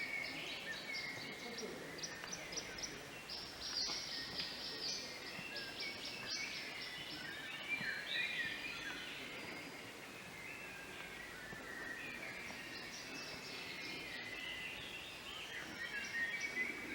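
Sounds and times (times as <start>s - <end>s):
songbirds chirping and trilling: 0.0s - 16.9s
steady outdoor hiss: 0.0s - 16.9s.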